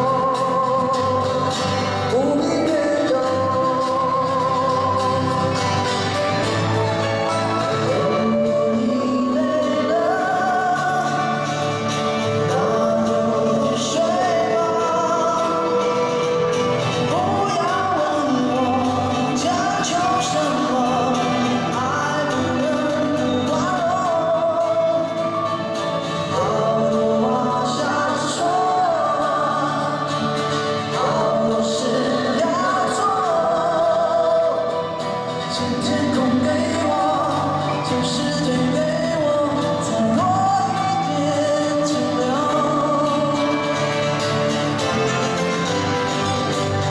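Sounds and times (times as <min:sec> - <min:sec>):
men singing lead vocals: 0:00.0 - 0:46.9
pop-rock band playing: 0:00.0 - 0:46.9.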